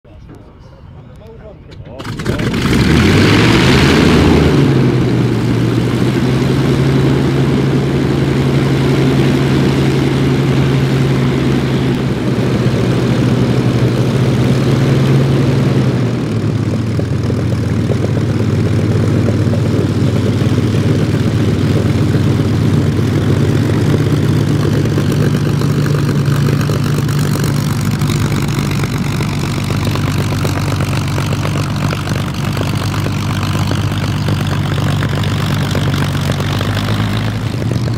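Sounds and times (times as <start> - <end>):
aircraft piston engine running: 2.0 - 37.9.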